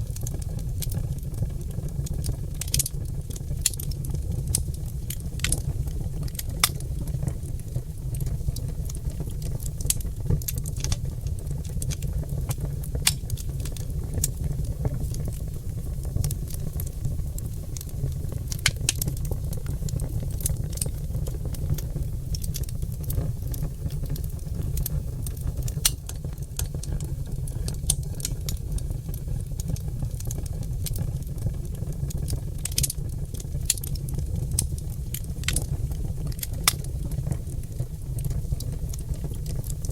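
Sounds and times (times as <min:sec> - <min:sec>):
fire low rumble: 0:00.0 - 0:39.9
logs crackling and popping: 0:00.0 - 0:39.9.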